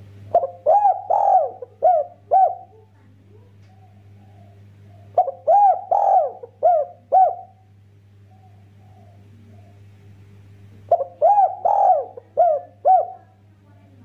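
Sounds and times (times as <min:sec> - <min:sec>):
dove cooing: 0:00.3 - 0:10.0, 0:10.8 - 0:13.5.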